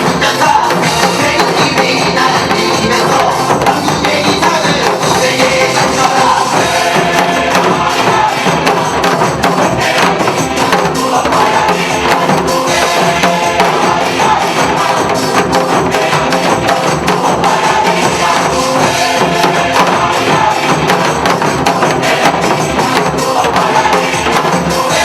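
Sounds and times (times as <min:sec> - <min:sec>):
drums struck in time: 0:00.0 - 0:25.0
upbeat music with steady beat: 0:00.0 - 0:25.0.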